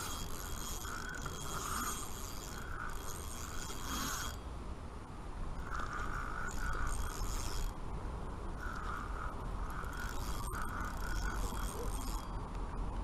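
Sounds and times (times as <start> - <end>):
fishing reel whirring and clicking: 0.0 - 4.5, 5.5 - 7.8, 8.6 - 12.4.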